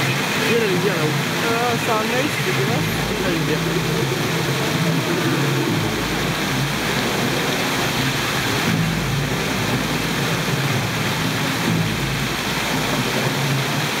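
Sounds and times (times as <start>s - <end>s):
fountain water spray hissing: 0.0s - 14.0s
low hum: 2.4s - 14.0s.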